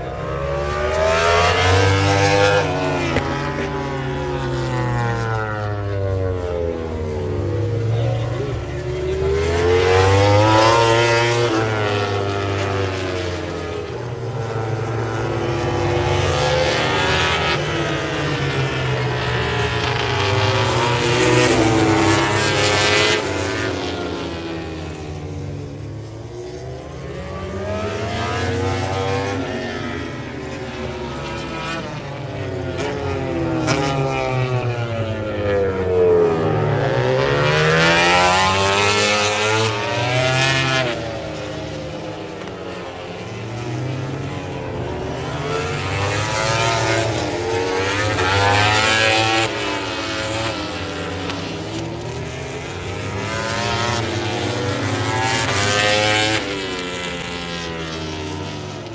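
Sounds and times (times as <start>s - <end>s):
racing motorcycles passing: 0.0s - 58.9s.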